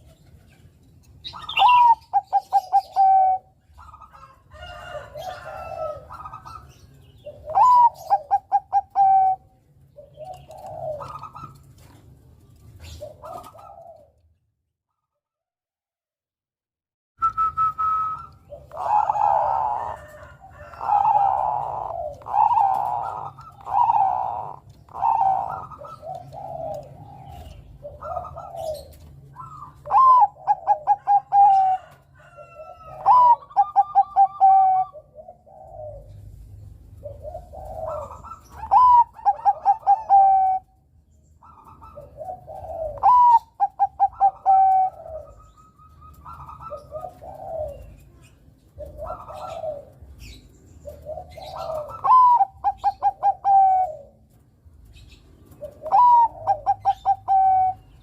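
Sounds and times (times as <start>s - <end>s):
dove cooing: 0.0s - 14.4s, 17.4s - 58.0s.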